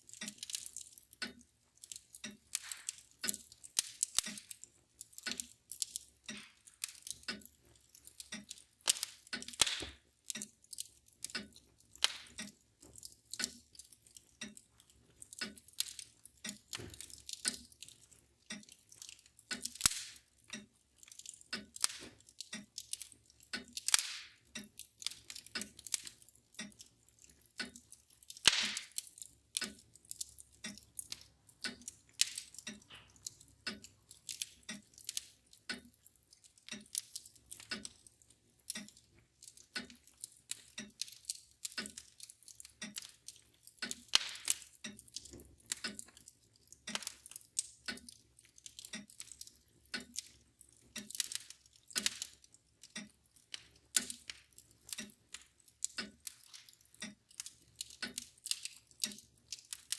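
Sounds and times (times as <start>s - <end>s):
mantel clock ticking: 0.0s - 59.9s
wood fire crackling and popping: 0.0s - 59.9s.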